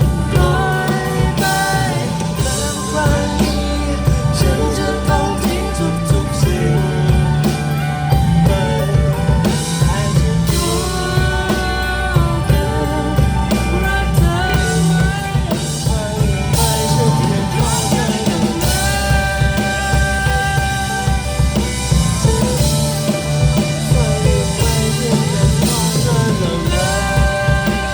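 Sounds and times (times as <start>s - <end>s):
bending melodic lead: 0.0s - 27.9s
drum kit with cymbals: 0.0s - 27.9s
heavy bass line: 0.0s - 27.9s.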